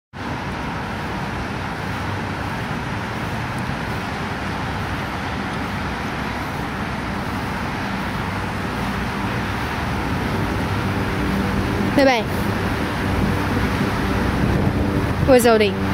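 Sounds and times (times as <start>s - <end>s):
distant road traffic hiss: 0.2s - 15.9s.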